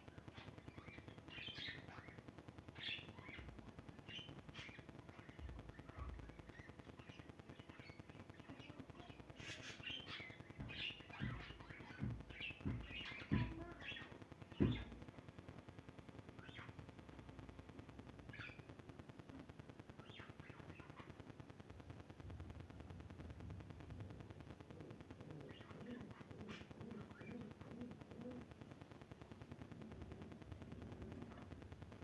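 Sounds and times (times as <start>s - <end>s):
small birds chirping: 0.0s - 15.2s, 15.9s - 22.4s, 23.2s - 28.6s.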